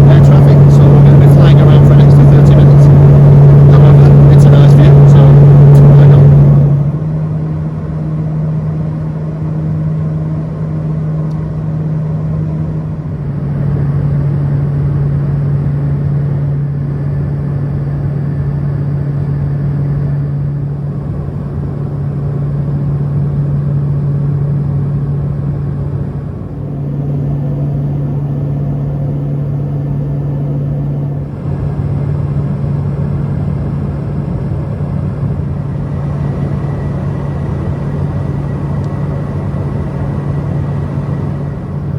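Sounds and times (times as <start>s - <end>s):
propeller plane cabin drone: 0.0s - 41.9s.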